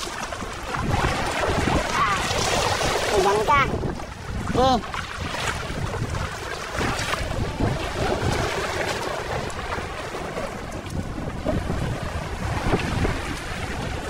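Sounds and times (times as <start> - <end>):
seawater lapping among boulders: 0.0 - 14.0
wind buffeting microphone: 0.0 - 14.0.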